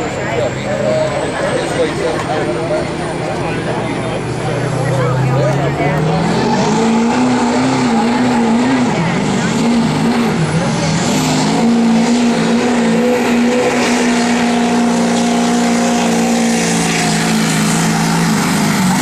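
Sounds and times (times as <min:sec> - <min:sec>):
diesel truck engine under load: 0:00.0 - 0:19.0.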